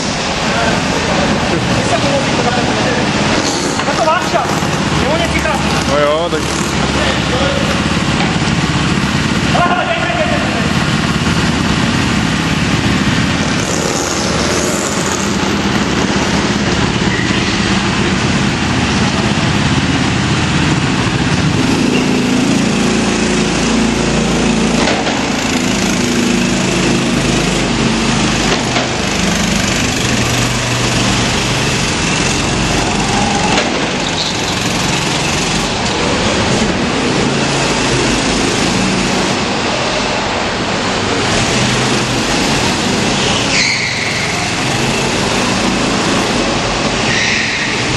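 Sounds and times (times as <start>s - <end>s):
go-kart engines running hard: 0.0s - 47.9s.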